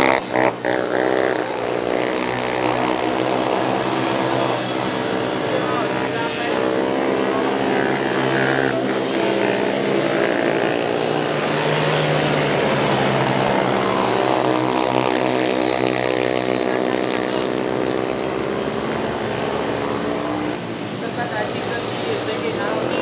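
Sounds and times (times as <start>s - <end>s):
quad bike engines revving: 0.0s - 23.0s.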